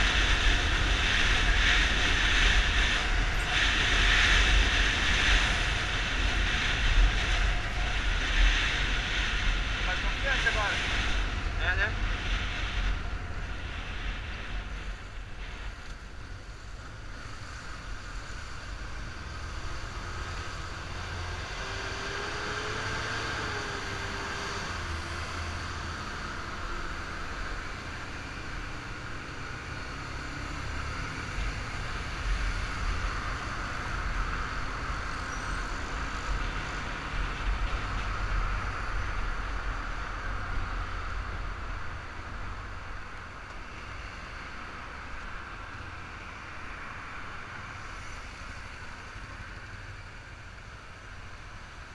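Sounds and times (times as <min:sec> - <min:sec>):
wind and road noise: 0:00.0 - 0:51.9.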